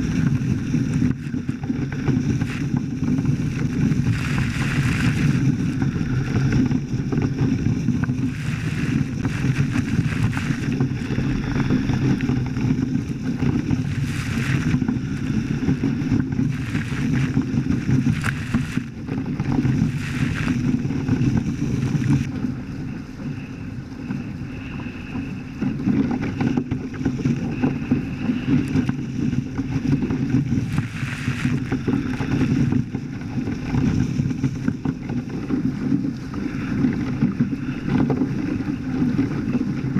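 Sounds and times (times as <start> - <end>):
water splashes: 0.0 - 23.5, 24.1 - 39.9
water rushing past hulls: 0.0 - 39.9
wind buffeting microphone: 0.0 - 39.9.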